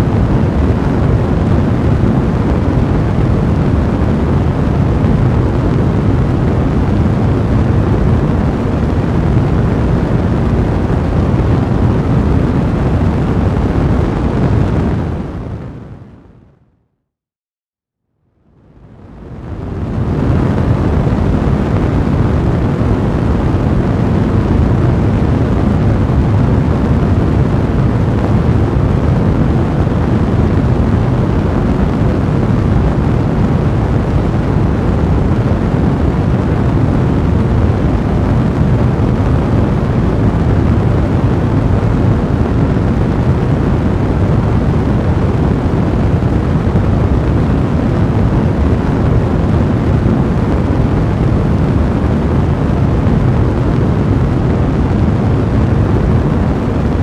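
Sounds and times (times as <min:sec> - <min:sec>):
fire blazing rumble: 0:00.0 - 0:16.4, 0:18.6 - 0:57.0.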